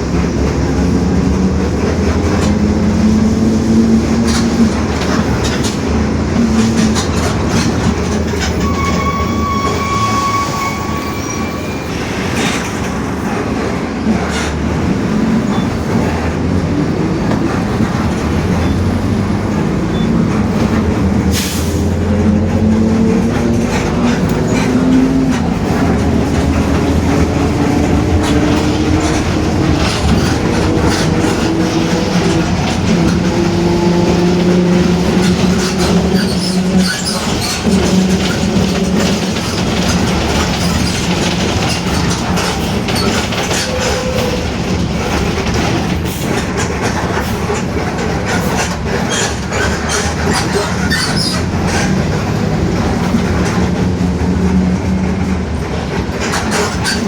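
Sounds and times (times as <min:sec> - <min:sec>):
bus body rattling: 0:00.0 - 0:57.0
bus diesel engine: 0:00.0 - 0:57.0.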